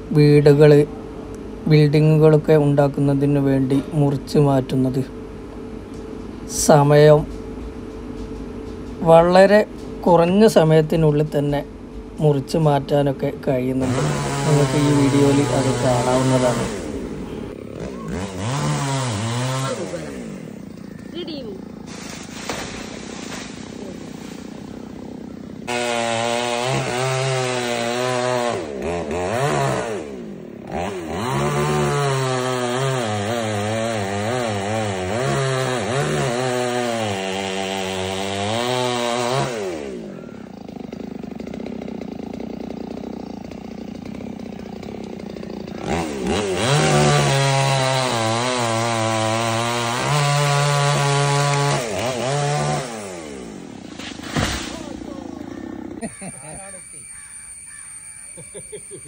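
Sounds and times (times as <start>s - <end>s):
chainsaw cutting wood: 6.9s - 59.0s.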